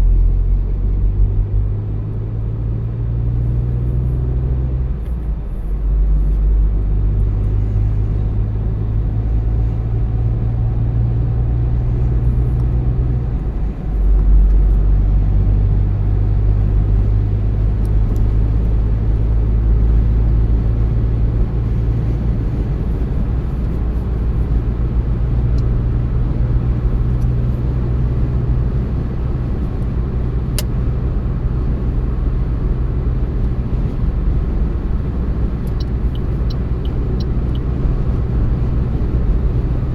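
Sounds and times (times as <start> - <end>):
car engine drone: 0.0 - 39.9
tyre and road noise: 0.0 - 39.9.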